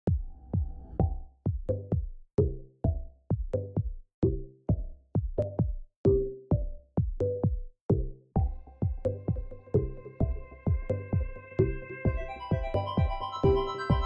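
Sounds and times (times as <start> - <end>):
electronic music with drum-machine beat: 0.1 - 14.0.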